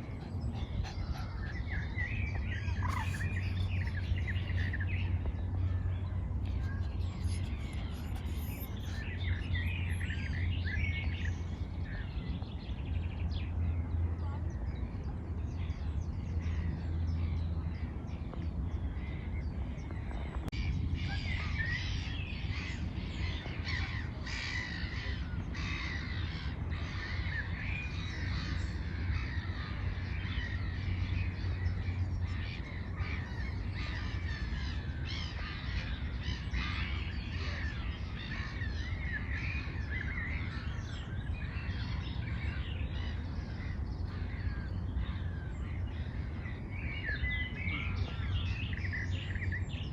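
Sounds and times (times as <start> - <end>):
birds chirping chorus: 0.0 - 49.9
steady low rumble: 0.0 - 49.9.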